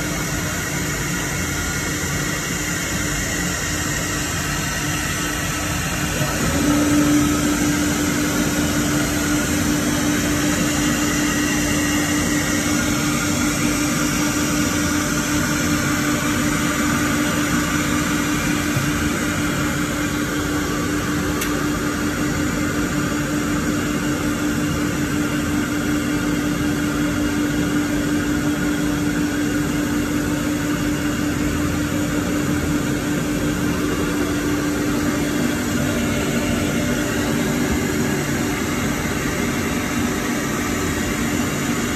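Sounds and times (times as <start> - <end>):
router spindle hum: 0.0 - 22.5, 30.6 - 41.9.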